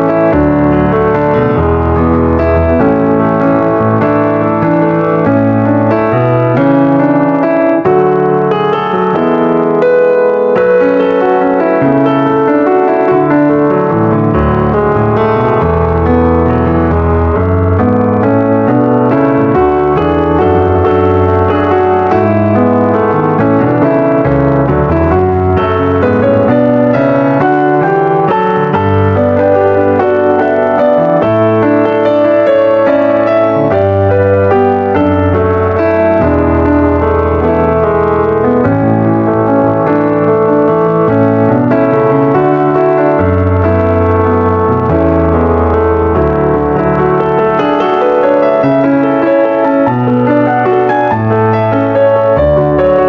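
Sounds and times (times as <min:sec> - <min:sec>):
piano music: 0:00.0 - 0:53.0.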